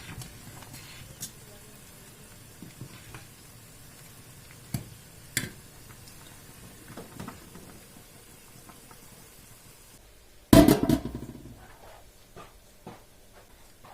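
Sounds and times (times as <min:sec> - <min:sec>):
faint steady hiss: 0:00.0 - 0:13.9.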